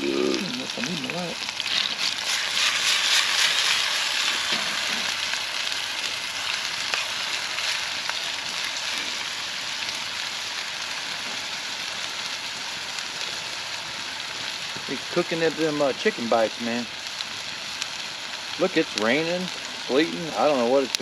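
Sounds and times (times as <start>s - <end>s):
chicken sizzling over a fire: 0.0s - 21.0s.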